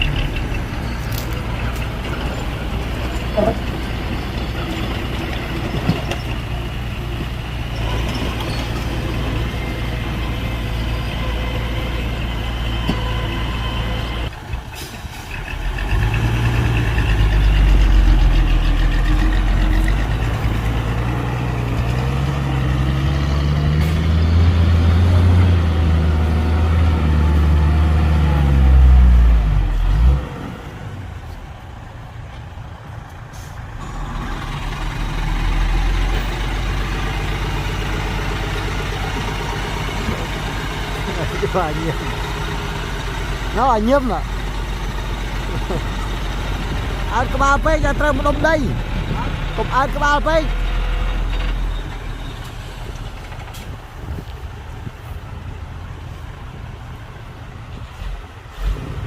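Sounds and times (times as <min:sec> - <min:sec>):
heavy diesel engine running: 0:00.0 - 0:30.0, 0:30.7 - 0:59.0
heavy engine revving: 0:00.0 - 0:30.9, 0:33.4 - 0:54.2, 0:58.0 - 0:59.0.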